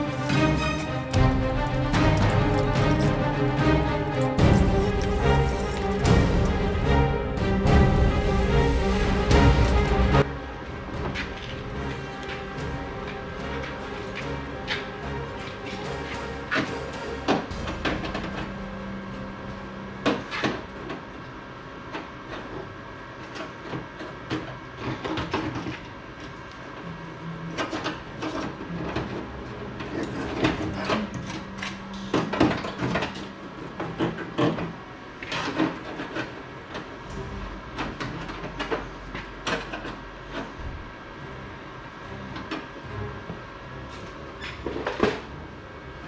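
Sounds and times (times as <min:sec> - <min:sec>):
steady hum: 0:00.0 - 0:25.1, 0:25.8 - 0:46.0.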